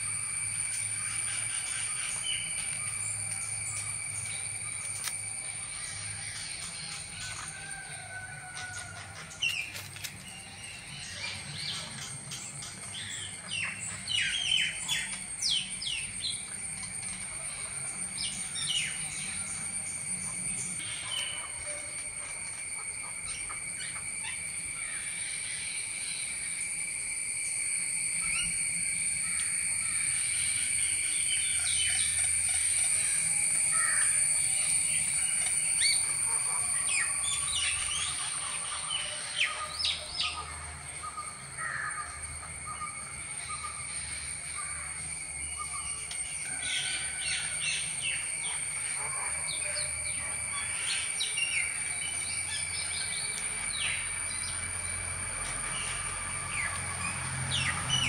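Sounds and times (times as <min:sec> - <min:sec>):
birds chirping: 0:00.0 - 0:26.8, 0:29.2 - 0:58.0
high-pitched insect drone: 0:00.0 - 0:58.0.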